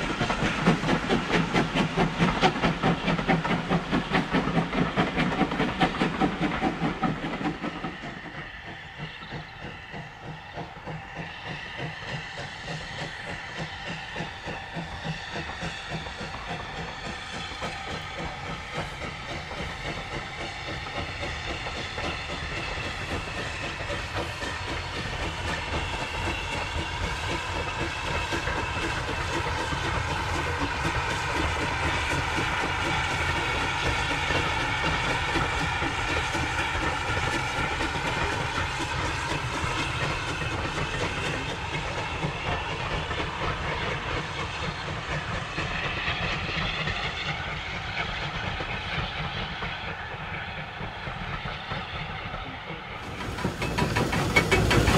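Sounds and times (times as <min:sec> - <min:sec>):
steam hissing: 0:00.0 - 0:54.9
steam locomotive exhaust beating: 0:00.0 - 0:54.9.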